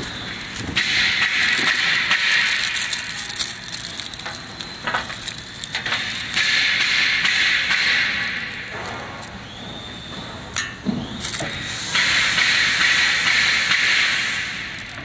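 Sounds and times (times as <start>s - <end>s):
plastic wrapping crinkling: 0.0s - 9.8s, 10.7s - 15.0s.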